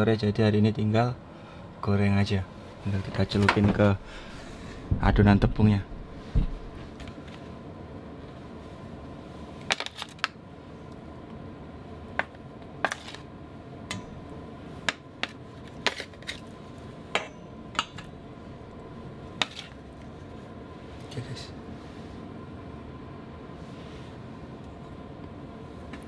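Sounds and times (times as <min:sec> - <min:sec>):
background hum: 0:00.0 - 0:26.0.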